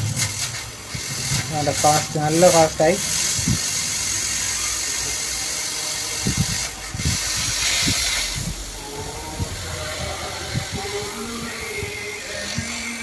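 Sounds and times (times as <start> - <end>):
fridge compressor hissing: 0.0 - 13.0.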